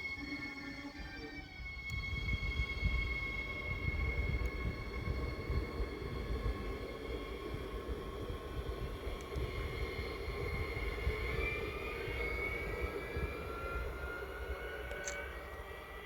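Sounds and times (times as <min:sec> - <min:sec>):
falling train whine: 0:00.0 - 0:16.0
train rumbling past: 0:02.0 - 0:16.0.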